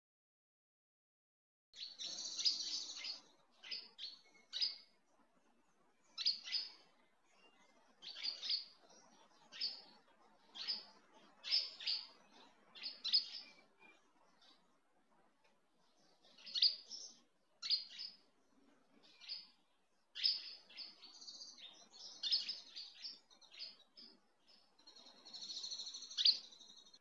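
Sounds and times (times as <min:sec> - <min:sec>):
small birds chirping: 0:01.8 - 0:27.0.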